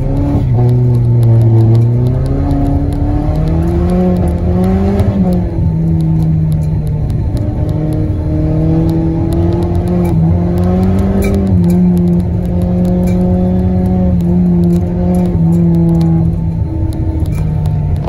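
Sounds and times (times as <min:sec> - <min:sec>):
car engine under load: 0:00.0 - 0:18.0
low road rumble: 0:00.0 - 0:18.0
sharp clicks: 0:00.0 - 0:18.0.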